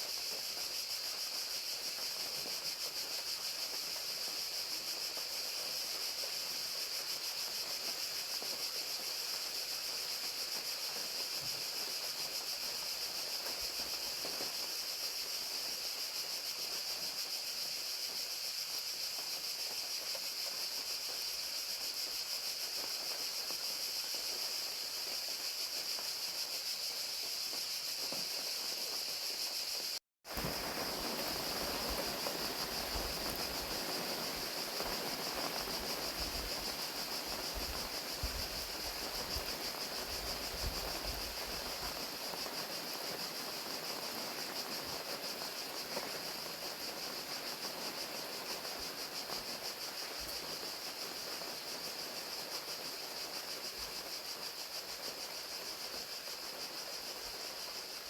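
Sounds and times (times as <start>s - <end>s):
crickets trilling: 0.0s - 58.0s
rain falling hiss: 0.0s - 58.0s.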